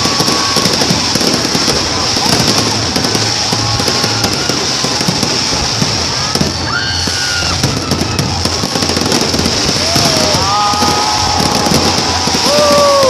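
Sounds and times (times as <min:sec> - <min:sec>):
fireworks crackling and popping: 0:00.0 - 0:13.0
fireworks whistling: 0:00.0 - 0:13.0.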